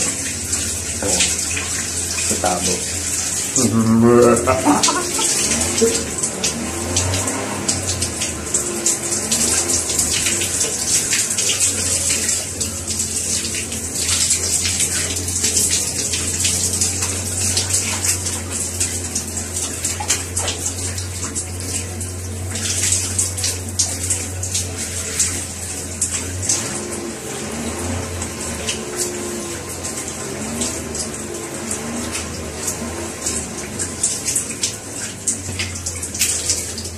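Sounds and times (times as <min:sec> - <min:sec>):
shower water spraying: 0:00.0 - 0:36.9
water splashing on floor: 0:00.0 - 0:36.9.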